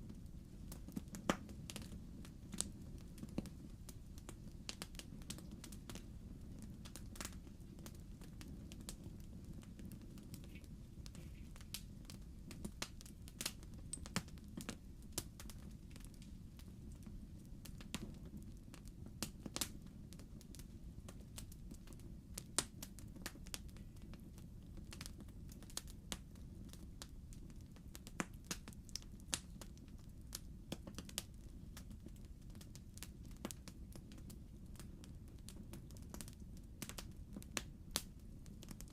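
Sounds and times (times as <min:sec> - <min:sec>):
logs crackling and popping: 0:00.0 - 0:38.9
low rumble of fire: 0:00.0 - 0:38.9.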